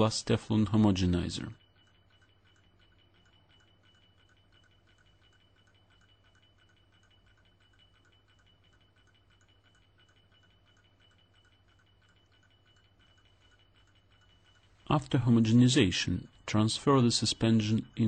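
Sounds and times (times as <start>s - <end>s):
faint ticking: 0.0s - 18.0s.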